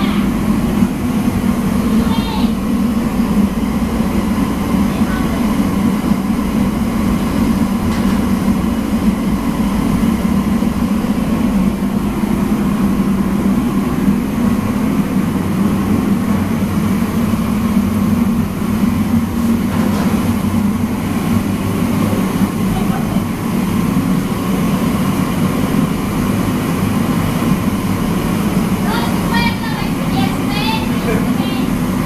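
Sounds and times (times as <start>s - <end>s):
loud mechanical drone: 0.0s - 32.0s.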